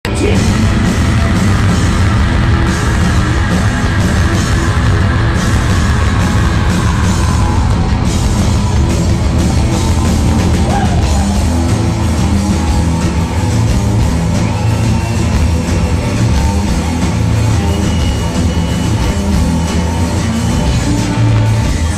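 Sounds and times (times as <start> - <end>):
bass guitar: 0.0 - 21.9
distorted electric guitars: 0.0 - 21.9
drum kit: 0.0 - 21.9.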